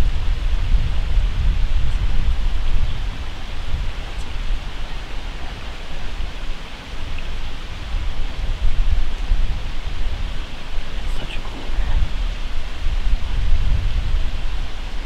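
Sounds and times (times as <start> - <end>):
steady hiss: 0.0 - 15.0
wind rumbling on microphone: 0.0 - 15.0.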